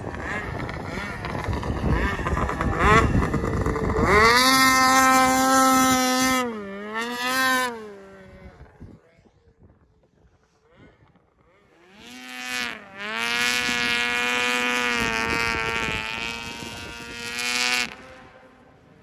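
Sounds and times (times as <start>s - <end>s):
snowmobile engine at full throttle: 0.0s - 19.0s.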